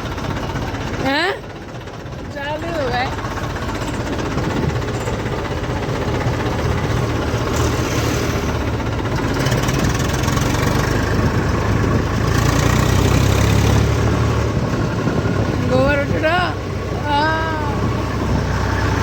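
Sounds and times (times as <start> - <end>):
tractor diesel engine droning: 0.0 - 19.0.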